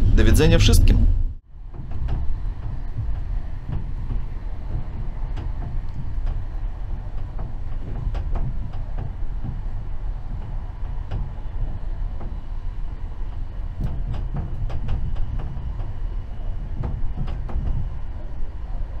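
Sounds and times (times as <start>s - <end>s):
train wheels rumbling on rails: 0.0s - 19.0s
clicks and knocks of track: 1.5s - 19.0s.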